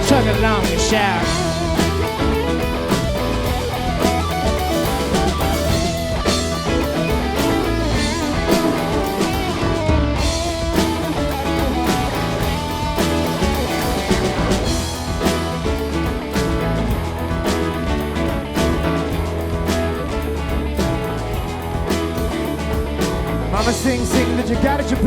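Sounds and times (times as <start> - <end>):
bass guitar: 0.0 - 25.0
drum kit: 0.0 - 25.0
keyboard: 0.0 - 25.0
lead guitar: 0.0 - 25.0.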